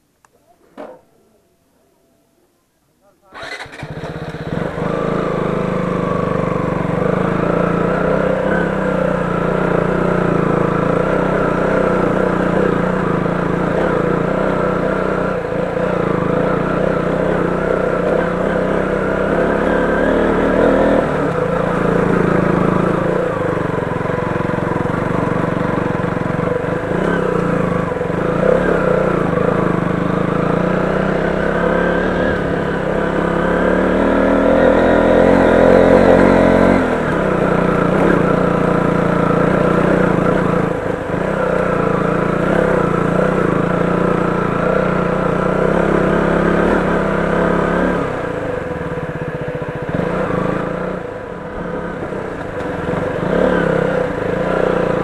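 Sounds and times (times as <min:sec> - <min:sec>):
motorcycle engine revving: 0:03.2 - 0:55.0.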